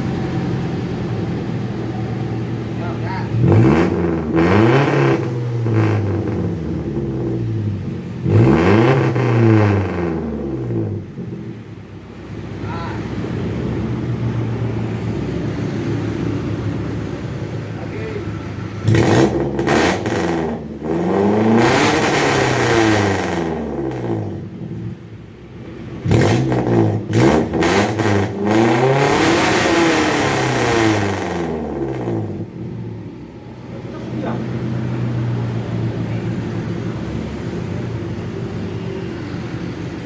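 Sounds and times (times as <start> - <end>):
engine idling and revving: 0.0 - 40.0.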